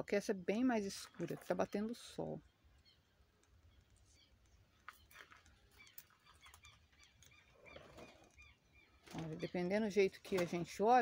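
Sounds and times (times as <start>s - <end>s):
faint chirping bird calls: 0.8s - 10.9s.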